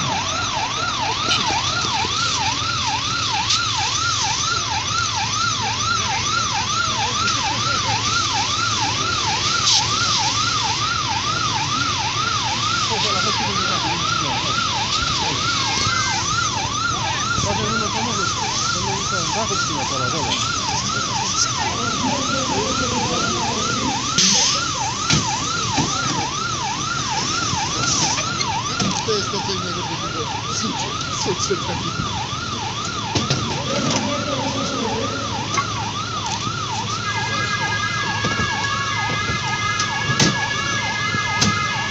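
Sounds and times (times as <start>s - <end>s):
emergency siren: 0.0s - 41.9s.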